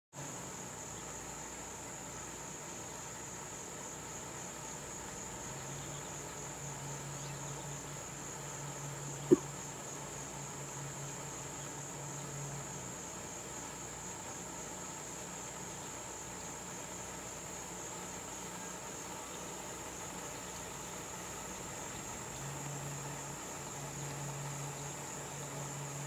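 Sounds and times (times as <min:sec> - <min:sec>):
crickets chirping: 0:00.2 - 0:26.0.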